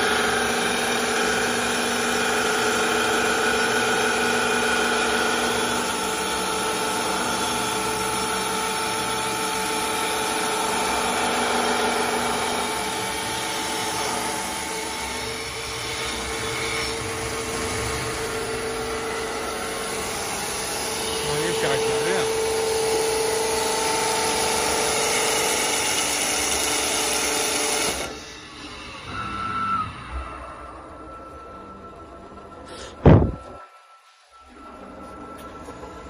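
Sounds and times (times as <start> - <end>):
lathe motors whining: 0.0 - 36.0.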